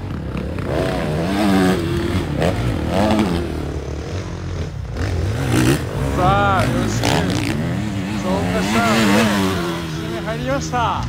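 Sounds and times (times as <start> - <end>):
motorcycles revving on track: 0.0 - 11.0.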